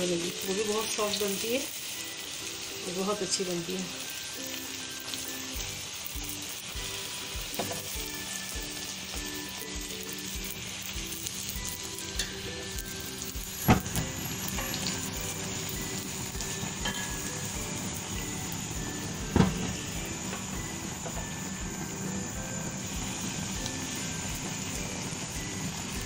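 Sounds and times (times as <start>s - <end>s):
deep-frying sizzle: 0.0s - 26.0s.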